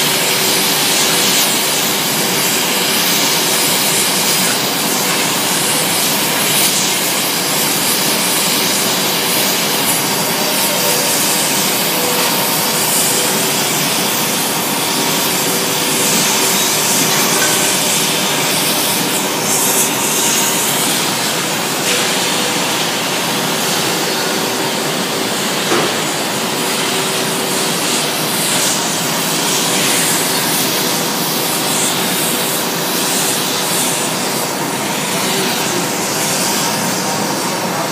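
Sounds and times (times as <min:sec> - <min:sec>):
roar of gas burners and furnaces: 0:00.0 - 0:37.9.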